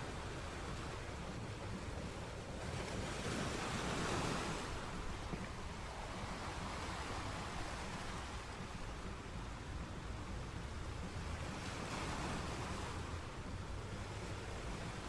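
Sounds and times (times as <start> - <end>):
waves washing onto shore: 0.0 - 15.0.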